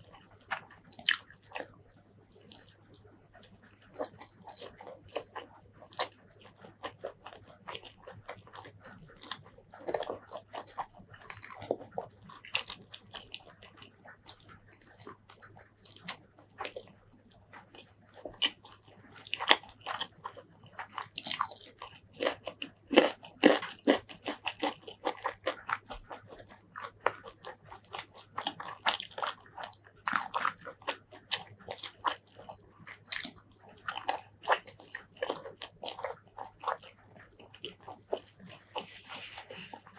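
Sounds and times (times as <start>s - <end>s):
wet chewing with crunchy bites: 0.0s - 39.9s.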